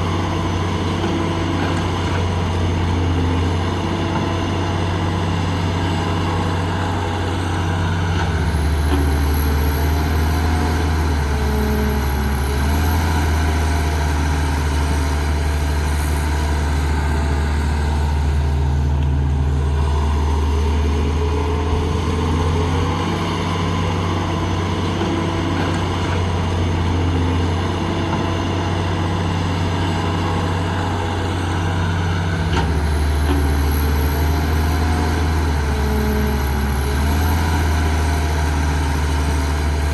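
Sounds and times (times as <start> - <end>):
diesel construction machine engine: 0.0 - 39.9.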